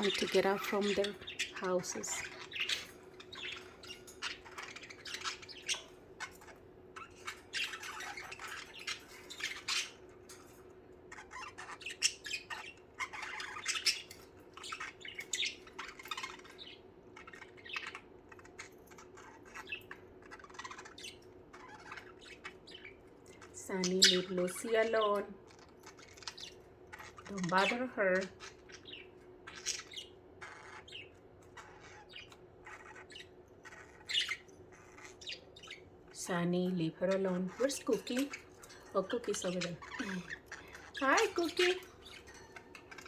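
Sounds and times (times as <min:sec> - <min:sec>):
budgerigars chirping and squawking: 0:00.0 - 0:43.0.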